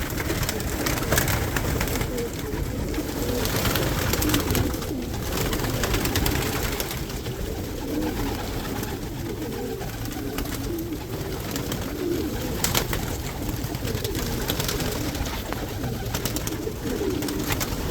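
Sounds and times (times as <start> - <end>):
pigeons cooing: 0.0 - 17.9.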